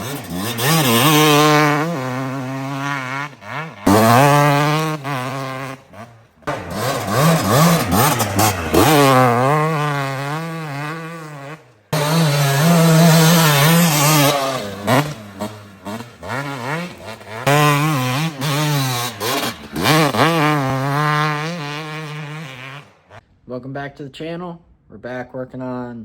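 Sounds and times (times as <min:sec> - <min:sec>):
dirt bike engine revving: 0:00.0 - 0:23.2.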